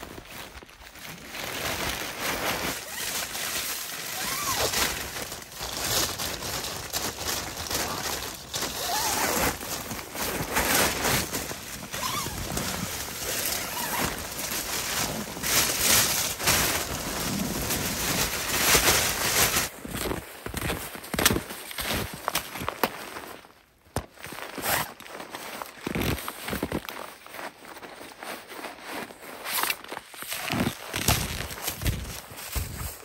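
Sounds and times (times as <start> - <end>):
tent fabric rustling: 0.0 - 33.0.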